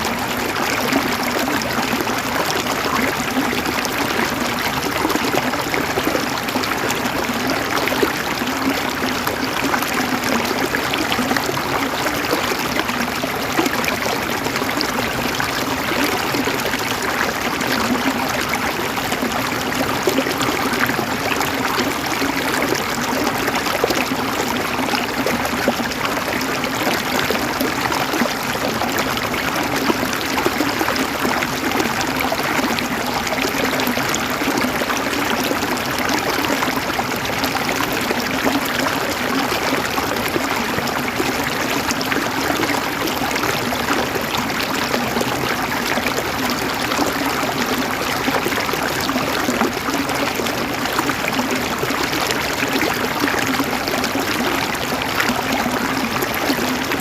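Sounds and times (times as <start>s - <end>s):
river water over stones: 0.0s - 57.0s.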